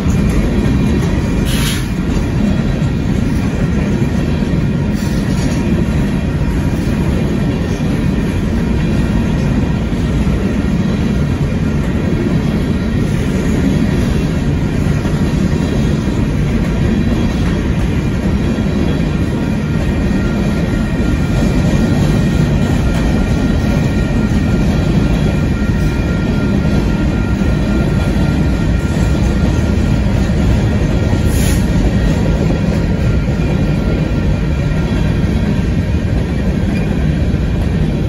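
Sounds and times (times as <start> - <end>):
freight cars rumbling on rails: 0.0 - 38.0.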